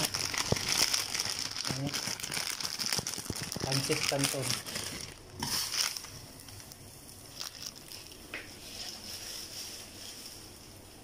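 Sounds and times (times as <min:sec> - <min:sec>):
plastic packet rustling: 0:00.0 - 0:10.8
low steady hiss: 0:00.0 - 0:11.0.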